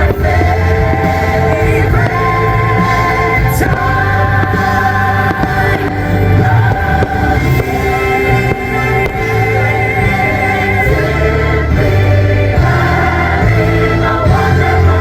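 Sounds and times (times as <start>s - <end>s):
loud music with singing voices: 0.0s - 15.0s.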